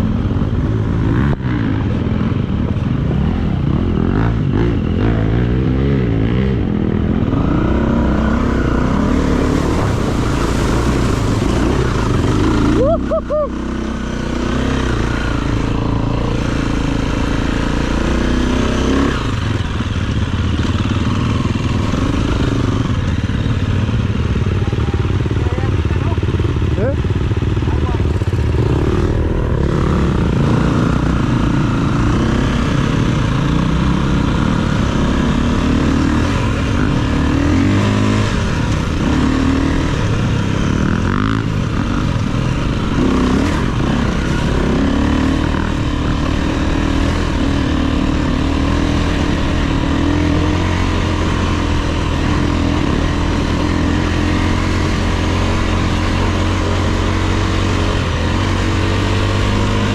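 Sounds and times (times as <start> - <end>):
dirt bike engine revving: 3.1 - 23.9, 26.4 - 59.9.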